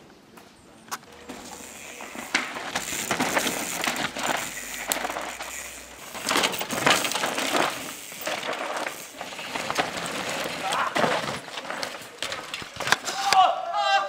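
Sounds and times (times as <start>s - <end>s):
bike tyres crunching on dirt: 1.0s - 13.4s.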